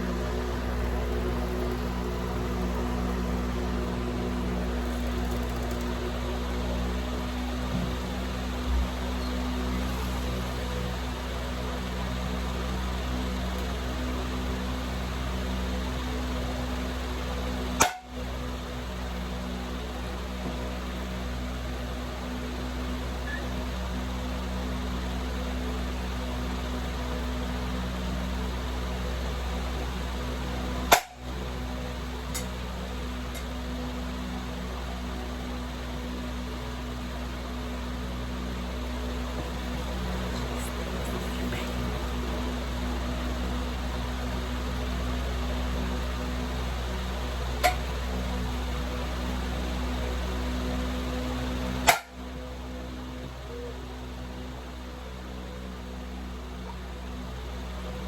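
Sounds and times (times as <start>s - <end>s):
low hum: 0.0s - 51.9s.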